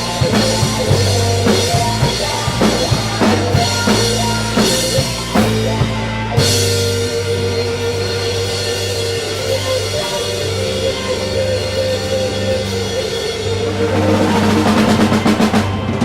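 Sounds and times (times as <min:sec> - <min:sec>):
blues band playing: 0:00.0 - 0:16.0.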